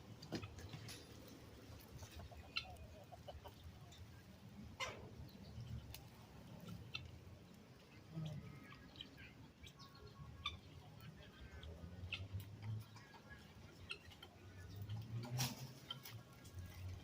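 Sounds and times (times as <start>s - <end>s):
peacock clucking softly: 1.7s - 17.0s.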